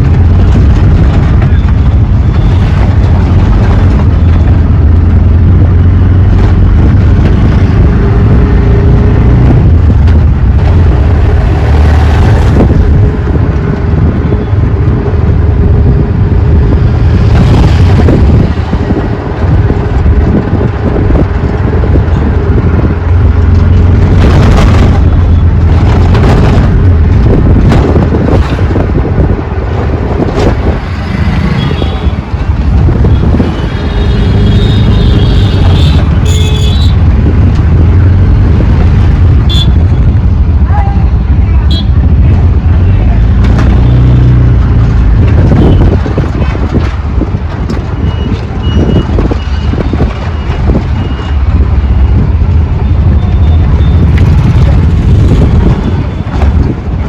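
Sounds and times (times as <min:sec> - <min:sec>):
rickshaw engine rumbling: 0:00.0 - 0:57.0
road noise: 0:00.0 - 0:57.0
wind buffeting microphone: 0:00.0 - 0:57.0.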